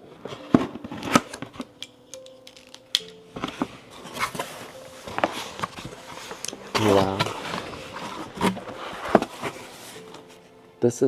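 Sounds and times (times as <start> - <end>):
cardboard box being opened: 0.0 - 10.7.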